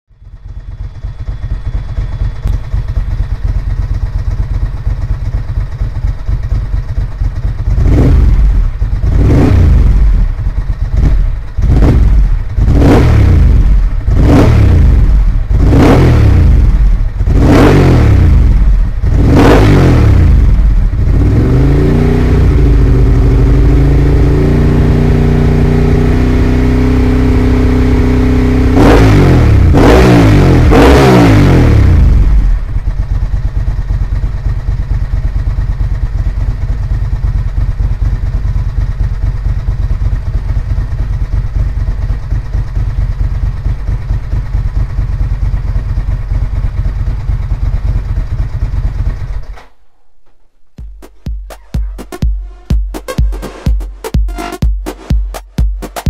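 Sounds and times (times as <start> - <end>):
motorcycle engine revving: 0.2 - 49.6, 50.8 - 56.0.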